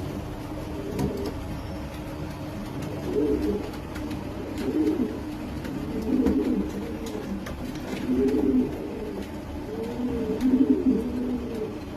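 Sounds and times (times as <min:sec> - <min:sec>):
pigeon cooing: 0:00.0 - 0:11.9.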